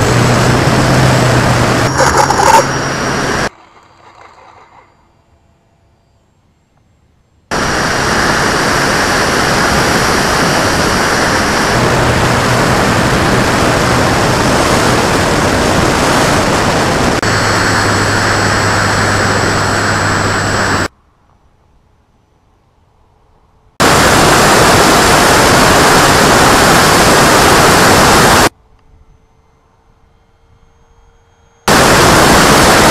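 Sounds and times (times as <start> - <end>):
wind and propeller noise: 0.0 - 5.4, 6.3 - 32.9
high whine: 0.0 - 32.9.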